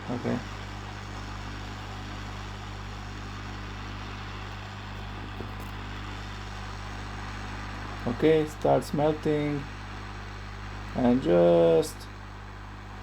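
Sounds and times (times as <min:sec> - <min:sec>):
hot-air station airflow hiss: 0:00.0 - 0:13.0
low hum: 0:00.0 - 0:13.0.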